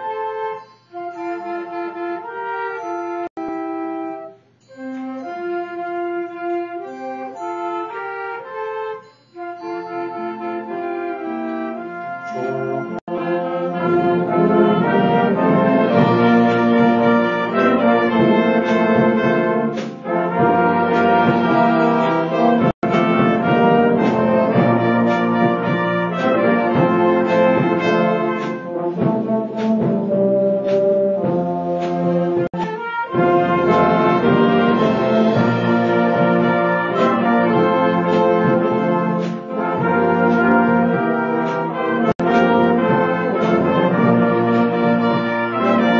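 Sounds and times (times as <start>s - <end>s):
brass section held chords: 0.0s - 45.9s
school band playing: 0.0s - 45.9s.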